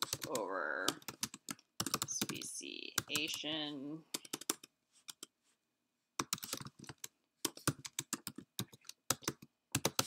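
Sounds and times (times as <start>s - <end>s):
computer keyboard typing: 0.0s - 3.5s, 4.1s - 5.3s, 6.2s - 10.0s.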